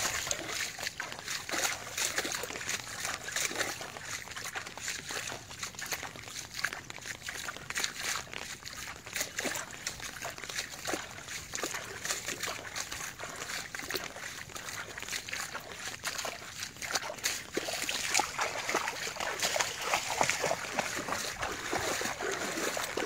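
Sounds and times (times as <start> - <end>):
dog splashing through water: 0.0 - 23.0.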